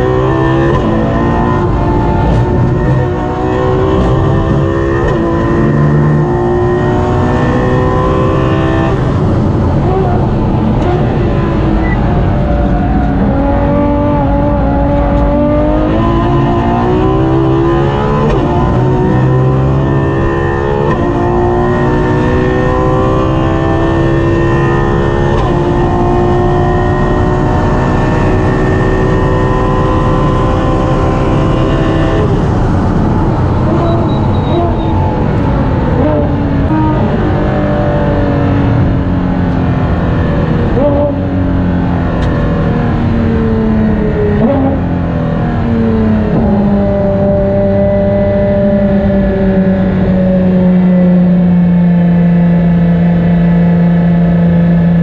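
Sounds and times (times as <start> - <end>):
engine throttle blips: 0.0 - 55.0
race car engine revving: 0.0 - 55.0.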